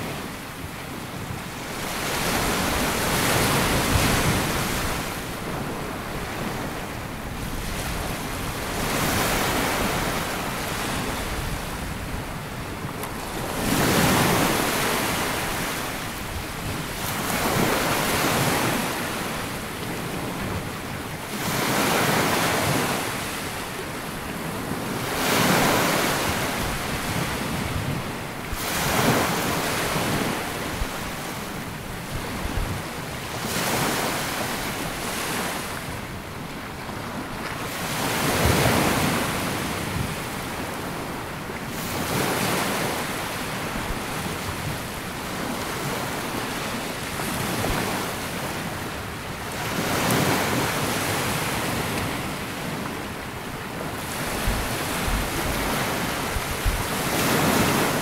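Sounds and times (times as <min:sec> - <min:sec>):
sea waves washing on beach: 0:00.0 - 0:58.0.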